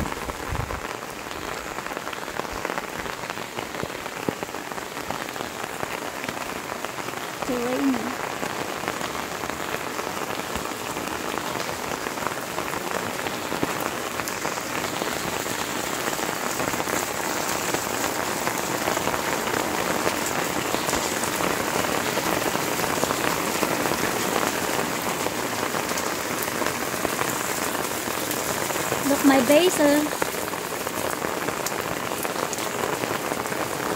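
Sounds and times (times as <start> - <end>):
rain on stone paving and plants: 0.0 - 33.9.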